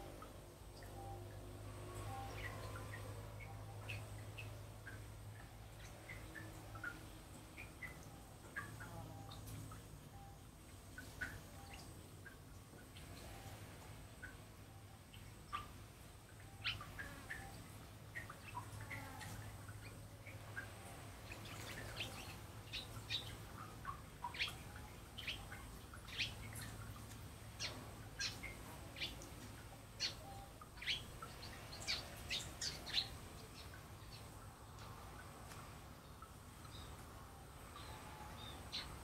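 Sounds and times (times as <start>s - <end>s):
faint low steady hum: 0.0s - 39.0s
small songbirds chirping: 0.0s - 39.0s.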